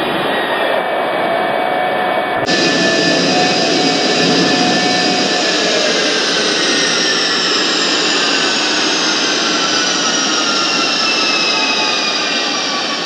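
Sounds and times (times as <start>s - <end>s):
jet engine roaring with whine: 0.0s - 13.0s.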